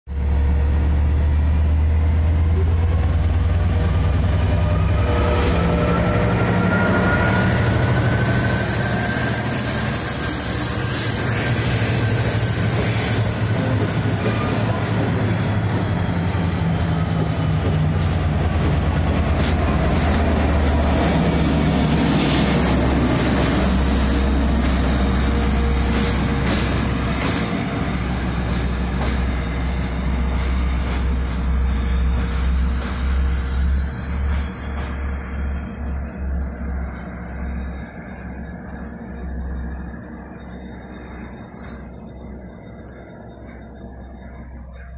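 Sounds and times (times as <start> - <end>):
low diesel drone: 0.1 - 44.9
train wheel squeal: 0.1 - 44.9.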